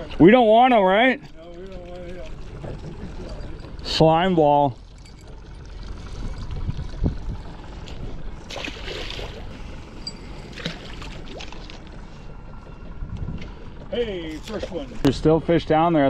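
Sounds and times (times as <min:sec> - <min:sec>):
low steady rumble: 0:00.0 - 0:16.0
water lapping against boat hull: 0:01.0 - 0:15.2.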